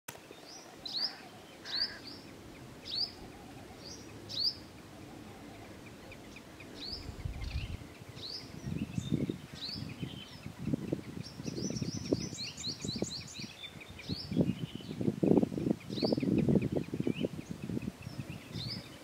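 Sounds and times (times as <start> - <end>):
outdoor background noise: 0.1 - 19.0
bird chirping: 0.2 - 19.0.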